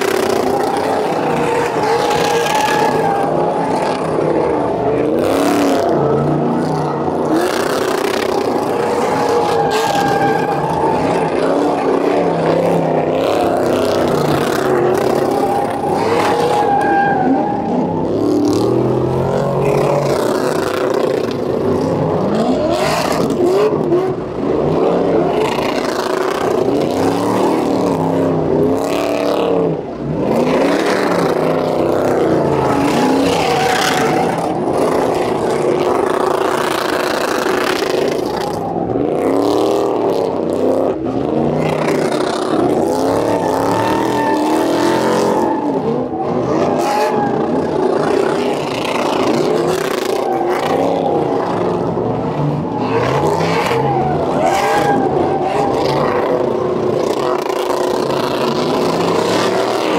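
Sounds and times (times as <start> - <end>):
engines revving hard: 0.0 - 59.9
tyres spinning on pavement: 0.0 - 59.9.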